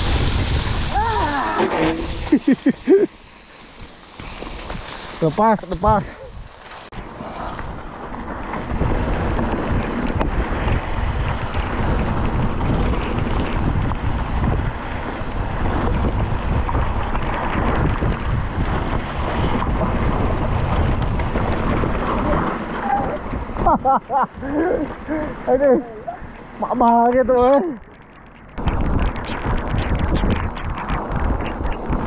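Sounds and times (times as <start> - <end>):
mountain bike rattling on trail: 0.0 - 32.0
wind buffeting microphone: 0.0 - 32.0.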